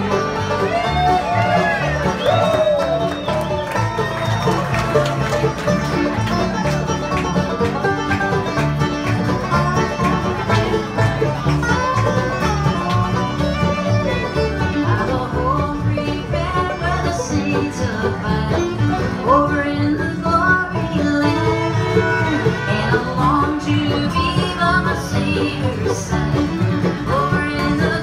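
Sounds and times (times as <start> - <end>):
bluegrass band playing: 0.0 - 28.0.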